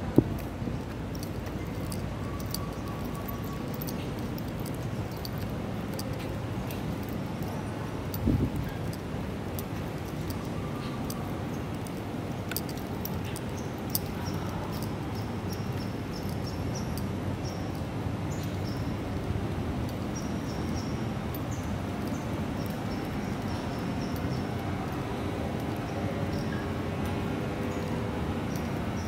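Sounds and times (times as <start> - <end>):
city street background noise: 0.0 - 29.0.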